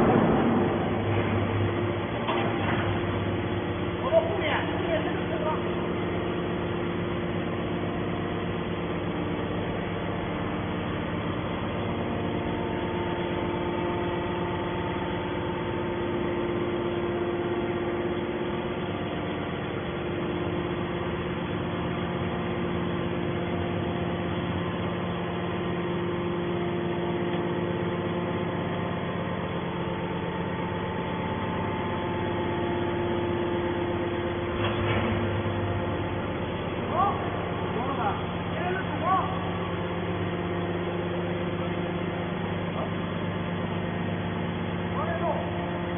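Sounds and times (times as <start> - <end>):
hydraulic power unit humming: 0.0 - 45.9.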